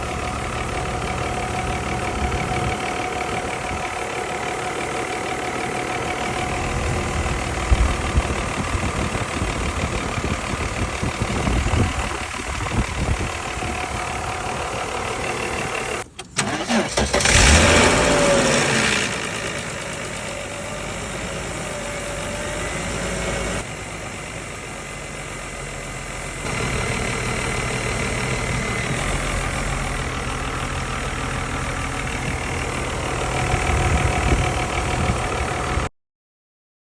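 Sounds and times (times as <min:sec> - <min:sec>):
car engine idling: 0:00.0 - 0:35.9
engine starting with rising whine: 0:00.0 - 0:35.9.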